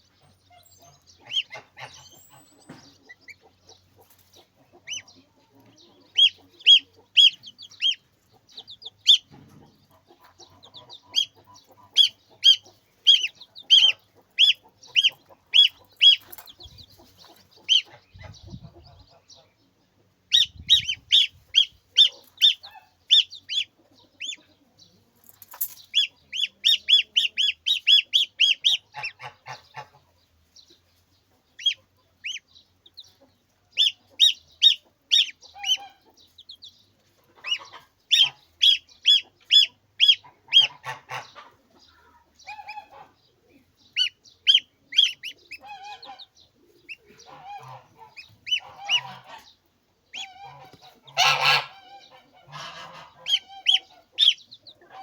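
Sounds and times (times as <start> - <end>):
poultry high-pitched calls: 0.0 - 19.5, 20.3 - 30.2, 31.5 - 55.0
poultry honking calls: 0.4 - 3.5, 4.7 - 19.5, 20.3 - 24.4, 26.0 - 30.1, 33.8 - 36.2, 37.3 - 41.6, 42.4 - 55.0.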